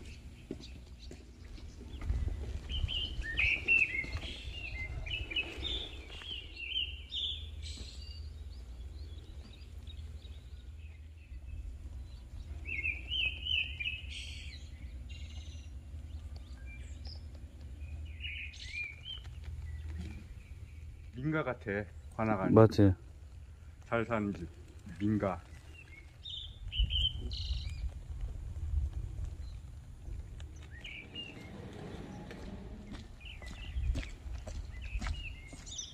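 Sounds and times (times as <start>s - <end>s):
small songbirds chirping: 0.0s - 35.9s
low steady rumble: 5.9s - 34.8s.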